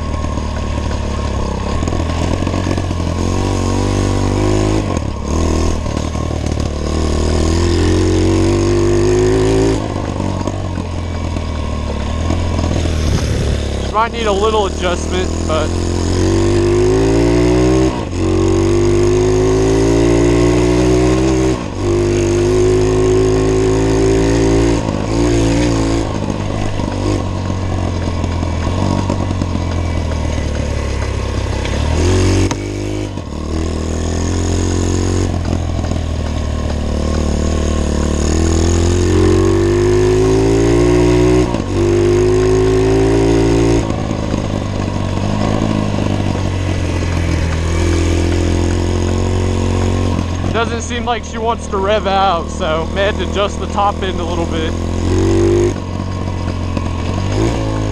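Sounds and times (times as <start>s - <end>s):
pit bike engine revving: 0.0s - 57.9s.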